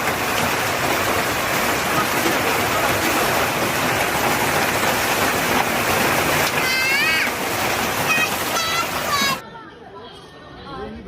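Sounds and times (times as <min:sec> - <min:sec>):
heavy rain on hard surfaces: 0:00.0 - 0:09.4.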